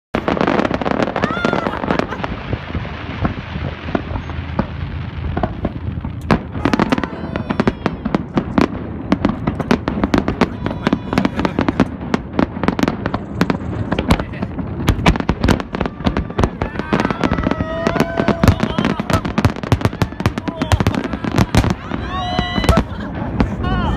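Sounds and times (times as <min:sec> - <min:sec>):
continuous low rumble: 0:00.2 - 0:23.9
fireworks bursting with bangs: 0:00.2 - 0:23.9
fireworks crackling: 0:00.2 - 0:23.9.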